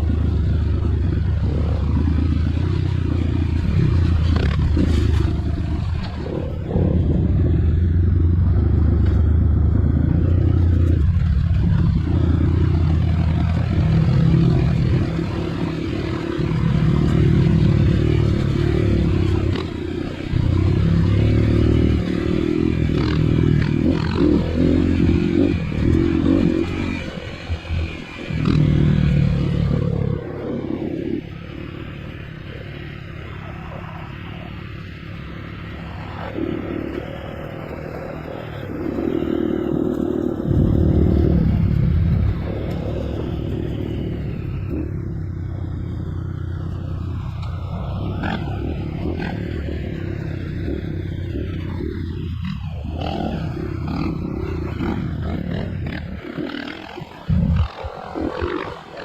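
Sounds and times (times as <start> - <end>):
dirt bike engine revving: 0.0 - 32.9, 34.8 - 59.0.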